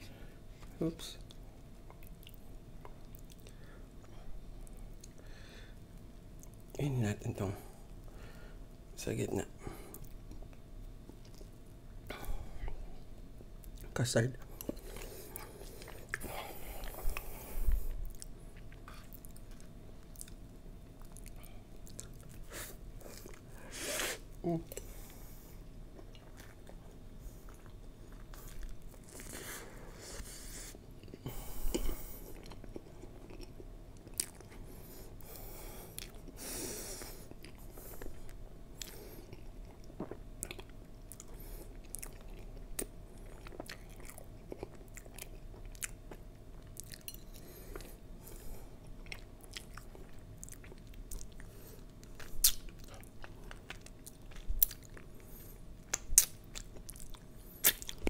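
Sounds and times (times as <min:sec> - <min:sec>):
man chewing with wet clicks: 0:01.2 - 0:05.3, 0:05.9 - 0:06.8, 0:09.9 - 0:23.6, 0:24.6 - 0:29.4, 0:30.9 - 0:58.0.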